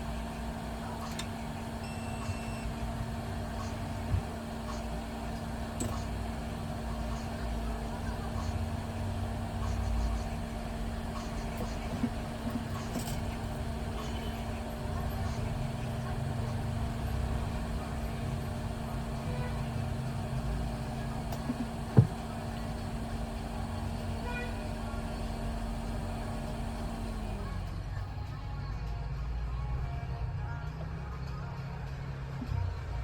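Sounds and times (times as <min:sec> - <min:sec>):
constant hum: 0:00.0 - 0:33.0.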